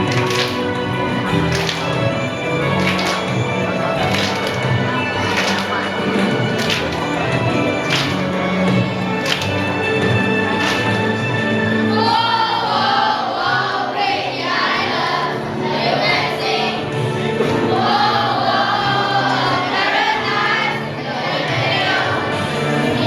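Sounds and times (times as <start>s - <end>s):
backing track music: 0.0s - 23.0s
children's choir singing: 0.0s - 23.0s.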